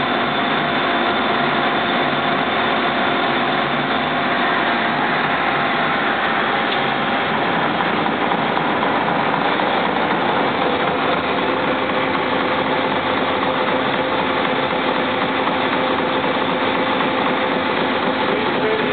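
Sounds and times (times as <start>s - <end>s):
milling machine cutting metal: 0.0s - 18.9s.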